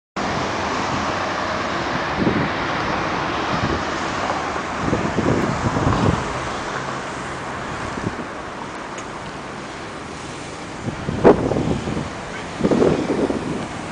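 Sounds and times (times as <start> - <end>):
cars driving past: 0.2 - 13.9
wind buffeting microphone: 0.2 - 13.9.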